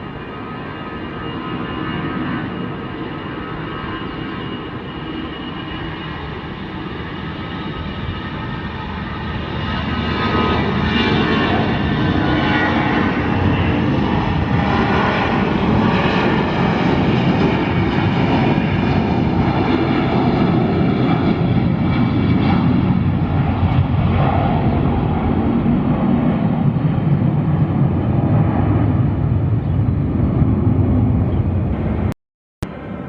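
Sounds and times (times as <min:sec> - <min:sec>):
jet engines running: 0:00.0 - 0:33.0.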